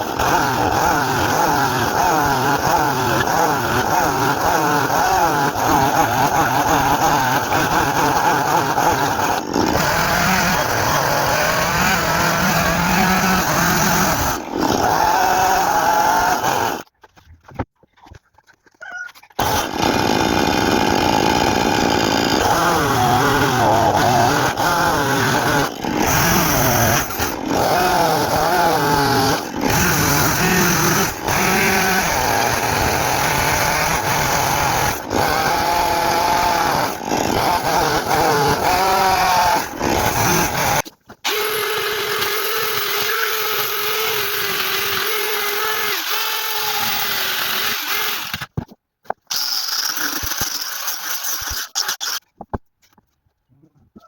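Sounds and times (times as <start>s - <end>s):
chainsaw cutting log: 0.0s - 17.7s, 19.3s - 53.0s.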